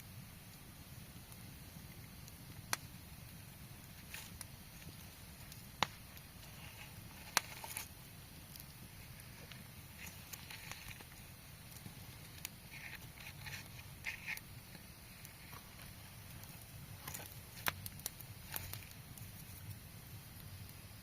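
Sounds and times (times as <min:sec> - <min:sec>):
campfire crackling: 0:00.0 - 0:21.0
fire pops and clicks: 0:00.2 - 0:21.0.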